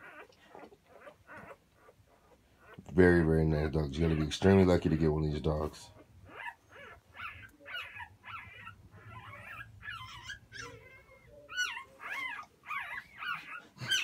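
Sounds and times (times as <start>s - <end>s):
puppies whimpering and squeaking: 0.0s - 14.0s.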